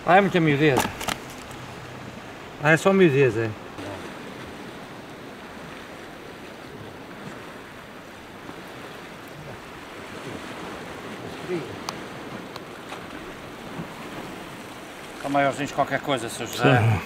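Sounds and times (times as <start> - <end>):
sea washing against rocks: 0.0 - 17.0.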